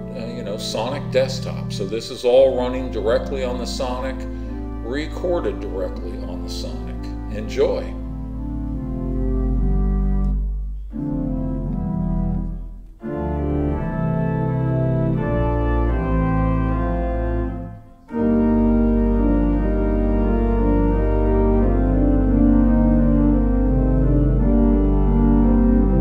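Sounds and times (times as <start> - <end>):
pipe organ chords: 0.0 - 26.0.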